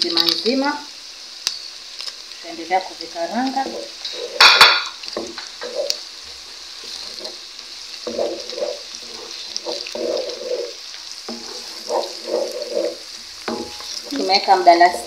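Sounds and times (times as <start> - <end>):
onions sizzling in hot oil: 0.0 - 15.0
wooden spoon stirring in a pot: 2.0 - 15.0.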